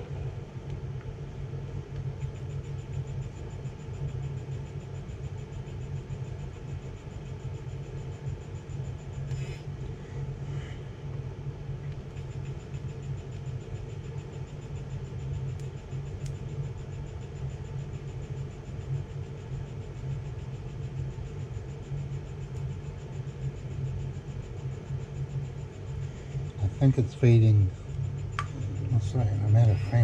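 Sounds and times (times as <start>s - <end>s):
pen feed motor droning: 0.0s - 30.0s.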